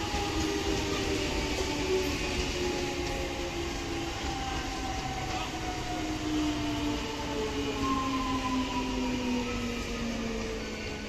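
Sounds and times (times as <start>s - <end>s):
train wheels rumbling on rails: 0.0s - 11.0s
train whine gliding down: 0.0s - 11.0s.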